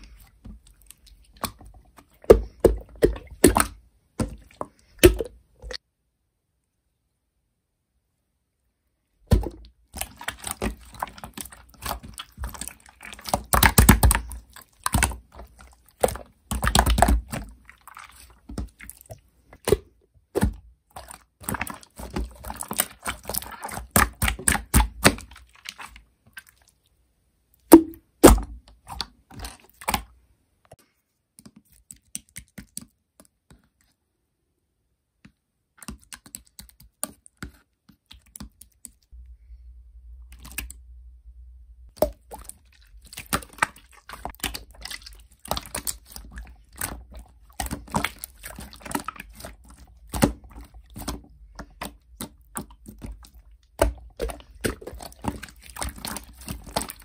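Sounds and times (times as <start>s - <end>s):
hands squishing slime: 0.0s - 5.8s, 9.3s - 26.9s, 27.6s - 30.2s, 31.3s - 34.0s, 35.7s - 39.2s, 40.2s - 40.8s, 41.9s - 57.0s.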